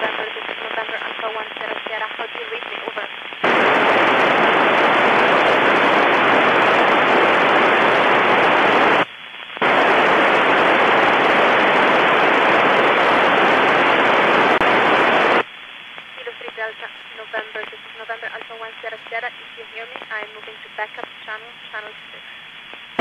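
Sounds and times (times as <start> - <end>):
radio receiver static hiss: 0.0 - 23.0.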